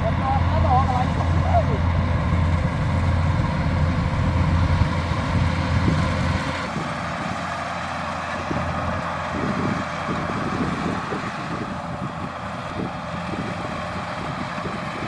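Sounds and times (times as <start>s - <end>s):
combine harvester engine hum: 0.0s - 15.0s.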